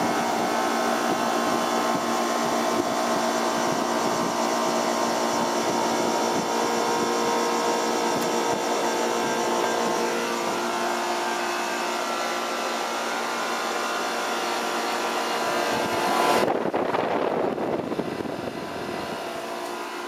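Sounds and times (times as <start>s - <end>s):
compressor hum: 0.0s - 20.0s
condenser fan rushing: 0.0s - 20.0s.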